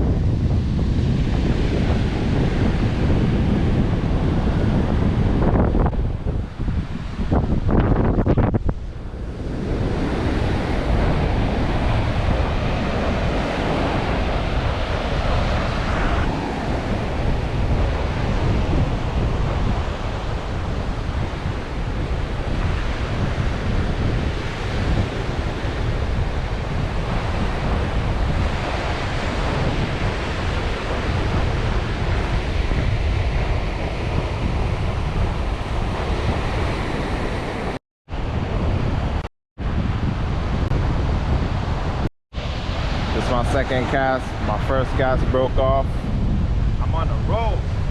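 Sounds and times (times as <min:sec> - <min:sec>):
ocean surf washing over reef: 0:00.0 - 0:47.9
wind buffeting microphone: 0:00.0 - 0:47.9.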